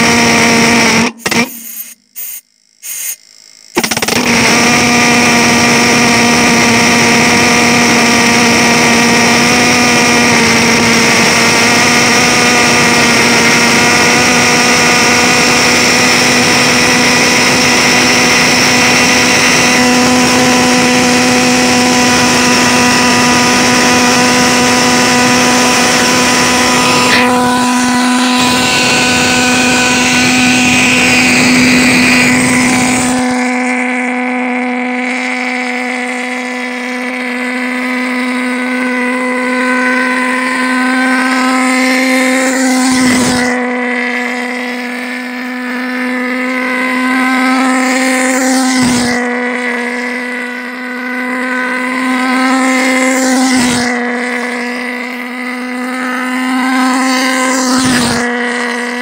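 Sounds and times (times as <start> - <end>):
pulse jet engine buzzing drone: 0.0 - 59.0.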